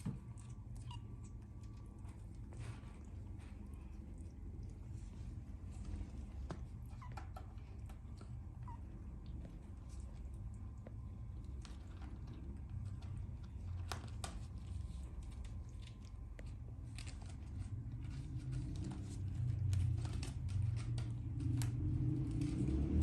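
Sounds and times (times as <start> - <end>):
soft rustles and crackles: 0.0 - 23.0.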